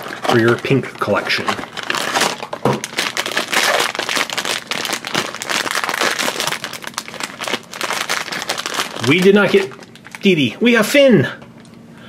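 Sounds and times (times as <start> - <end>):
foil bag crinkling: 0.0 - 10.8.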